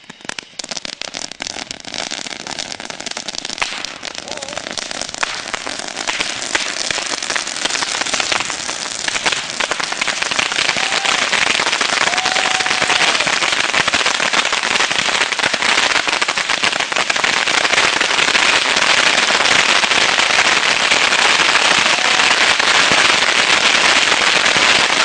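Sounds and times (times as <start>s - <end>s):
bottle rockets crackling and hissing: 0.0s - 25.0s.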